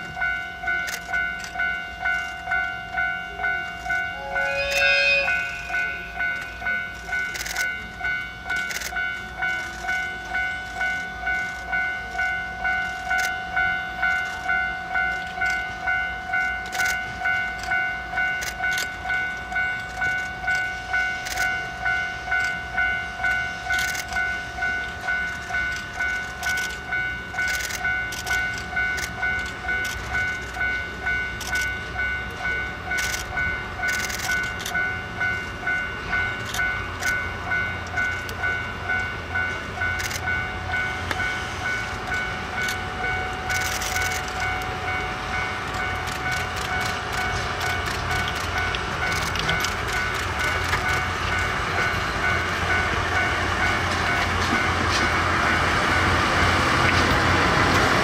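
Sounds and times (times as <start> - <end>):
level-crossing alarm ringing: 0.0 - 58.0
train rumbling: 0.0 - 58.0.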